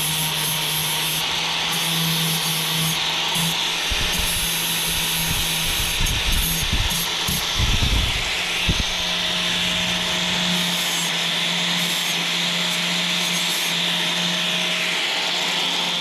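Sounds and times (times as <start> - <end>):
power tool grinding metal: 0.0 - 16.0.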